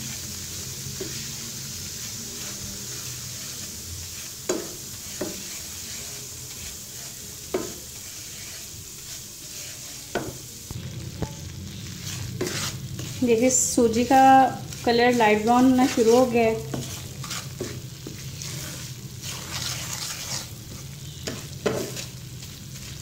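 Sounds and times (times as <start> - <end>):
semolina sizzling in oil: 0.0 - 23.0
wooden spoon scraping pan: 2.0 - 10.8, 11.7 - 23.0.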